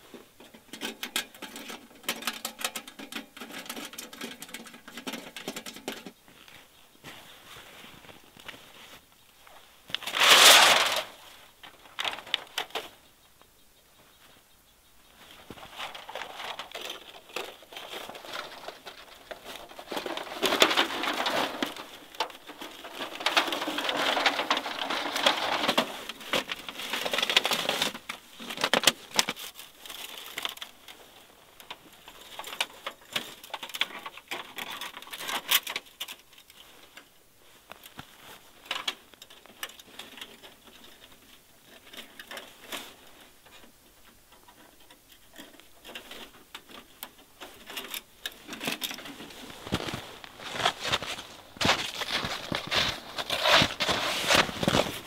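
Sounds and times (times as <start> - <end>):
sheet metal pipe crinkling: 0.0 - 13.0, 15.1 - 55.0.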